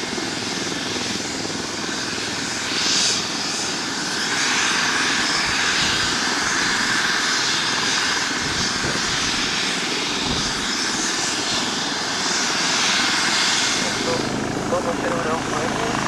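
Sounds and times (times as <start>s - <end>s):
helicopter turbine whine: 0.0s - 16.0s.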